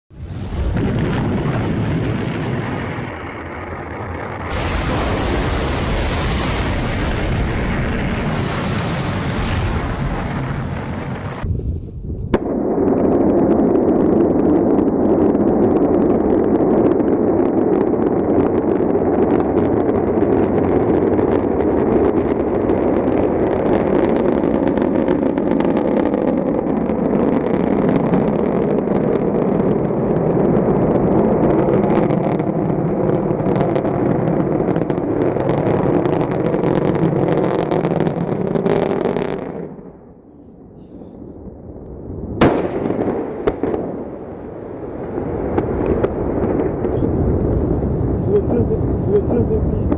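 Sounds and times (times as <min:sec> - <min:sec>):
rocket engine roar: 0:00.1 - 0:49.9.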